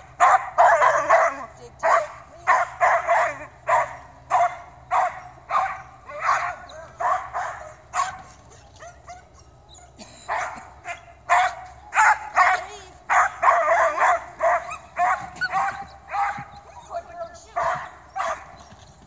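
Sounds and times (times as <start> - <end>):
dog barking: 0.2 - 9.4, 10.3 - 16.9, 17.5 - 18.5.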